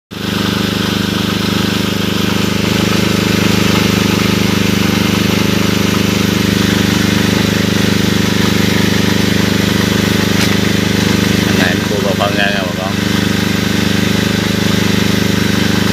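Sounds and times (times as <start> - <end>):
drone propellers humming: 0.1 - 15.9.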